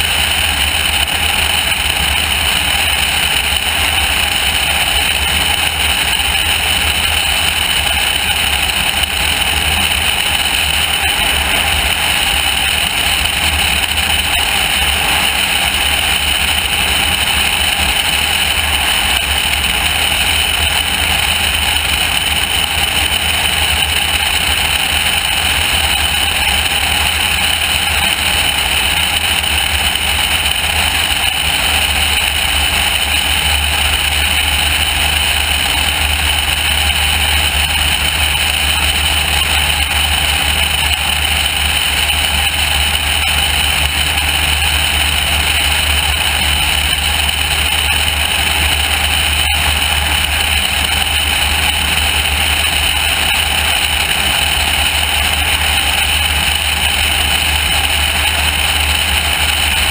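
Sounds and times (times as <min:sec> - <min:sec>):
airplane engine drone: 0:00.0 - 0:59.9.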